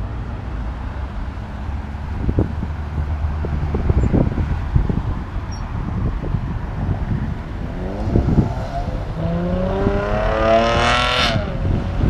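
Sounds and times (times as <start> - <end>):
car engine revving: 0.0 - 12.0
other engines rumbling: 0.0 - 12.0.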